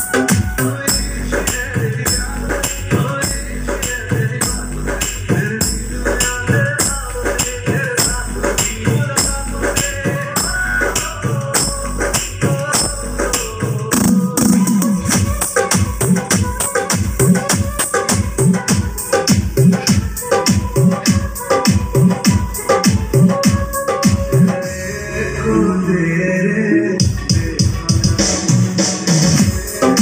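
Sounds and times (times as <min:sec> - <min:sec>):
loud music with heavy bass: 0:00.0 - 0:30.0.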